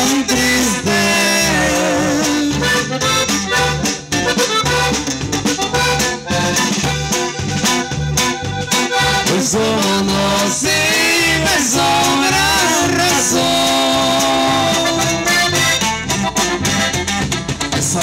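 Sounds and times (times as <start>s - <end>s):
button accordion melody: 0.0s - 18.0s
drum kit: 0.0s - 18.0s
electric bass: 0.0s - 18.0s
guitar: 0.0s - 18.0s.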